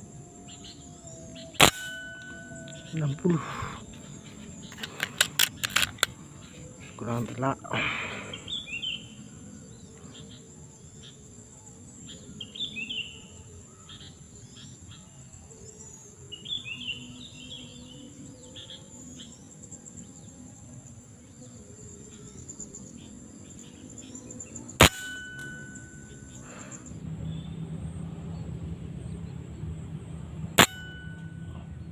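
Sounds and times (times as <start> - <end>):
bird chirping: 0.0 - 31.9
insects trilling: 0.0 - 31.9.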